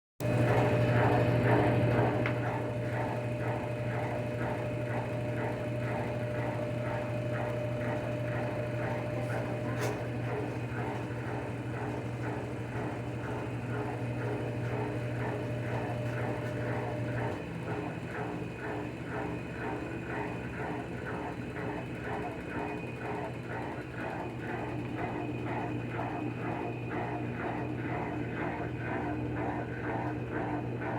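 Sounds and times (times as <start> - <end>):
water pump humming: 0.2 - 30.9.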